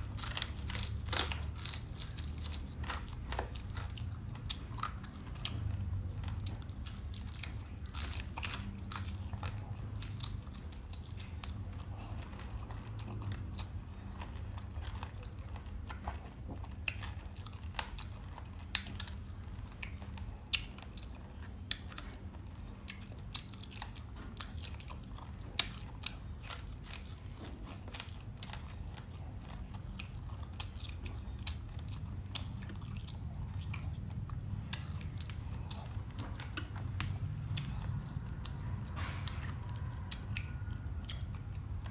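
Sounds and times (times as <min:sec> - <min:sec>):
chewing with crisp crunches: 0:00.0 - 0:41.9.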